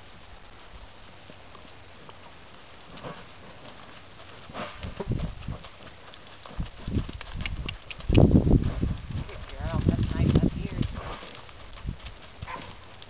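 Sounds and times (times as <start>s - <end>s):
hoofbeats on sand: 0.0s - 13.0s.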